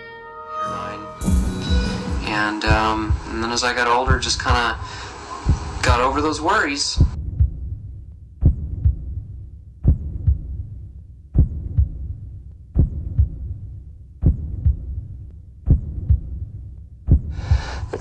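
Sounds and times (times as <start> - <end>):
slow heartbeat: 1.2 - 6.3, 7.0 - 18.0
steady low hum: 1.2 - 18.0.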